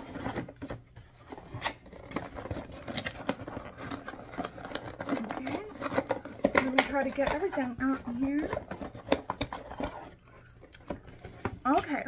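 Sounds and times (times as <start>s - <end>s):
packaging crinkling and scraping: 0.0s - 12.0s.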